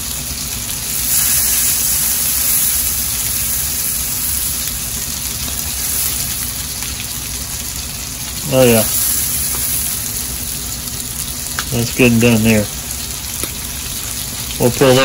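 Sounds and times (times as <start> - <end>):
scallops sizzling in a frying pan: 0.0 - 15.0.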